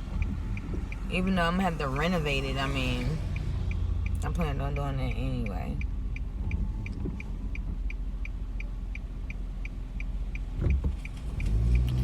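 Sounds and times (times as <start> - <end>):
car rumbling on road: 0.0 - 12.0
turn signal clicking: 0.0 - 12.0.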